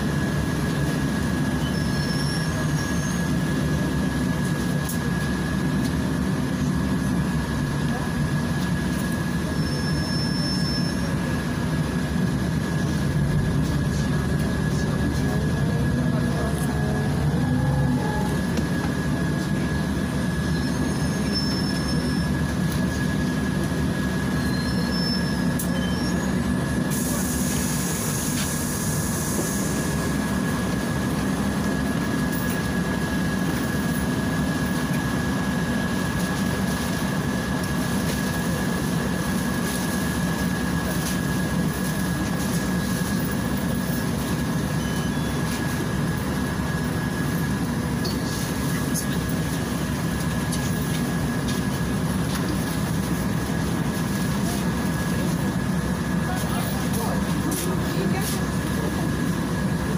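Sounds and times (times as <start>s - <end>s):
bus engine rumble: 0.0s - 59.9s
road noise: 0.0s - 59.9s.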